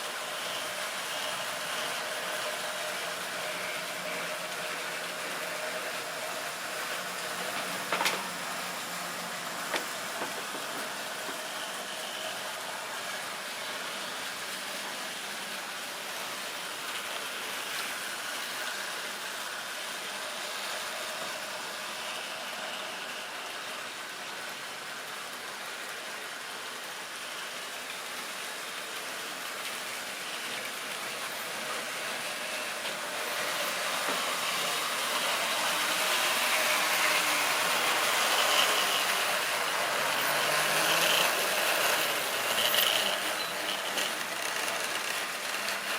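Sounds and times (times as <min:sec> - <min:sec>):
model train running on track: 0:00.0 - 0:45.9.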